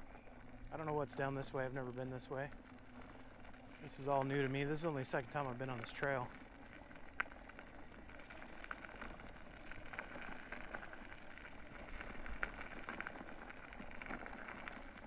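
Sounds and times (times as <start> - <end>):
grit ticking under wheels: 0.0 - 15.0
tyres rolling over dirt road: 0.7 - 15.0.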